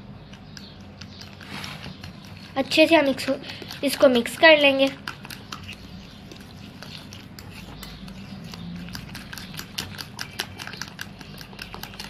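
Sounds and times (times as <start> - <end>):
whisk clicking against ceramic bowl: 0.2 - 12.0.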